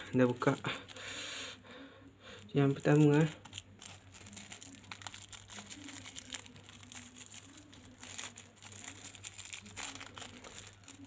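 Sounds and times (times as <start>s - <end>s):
plastic packet crinkling: 0.0s - 1.3s, 2.3s - 11.0s.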